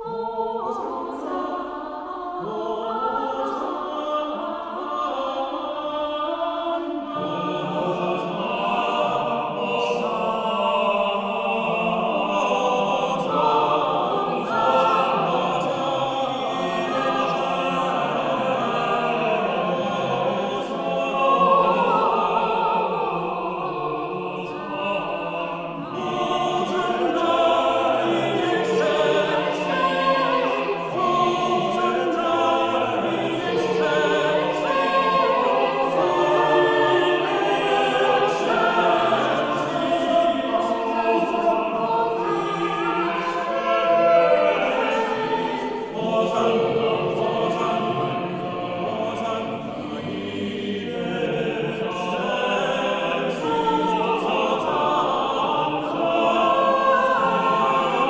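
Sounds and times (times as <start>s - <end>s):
vocal ensemble singing a cappella: 0.0s - 58.0s.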